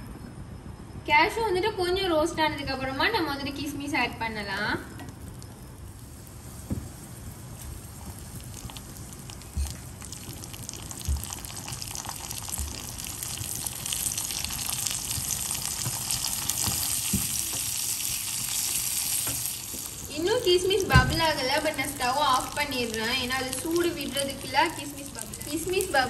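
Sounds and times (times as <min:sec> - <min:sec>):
nuts frying in ghee sizzling: 0:04.4 - 0:26.0.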